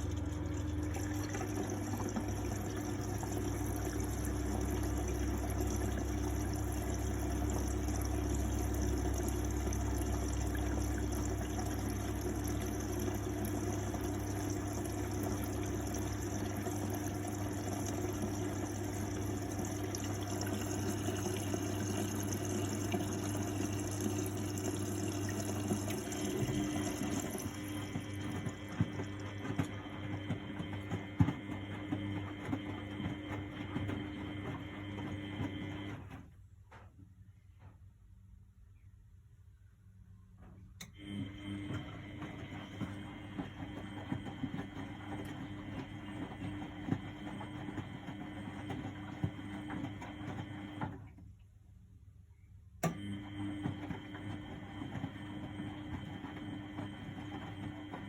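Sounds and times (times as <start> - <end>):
water rushing into washing machine: 0.0 - 36.5, 40.8 - 51.8, 52.7 - 58.0.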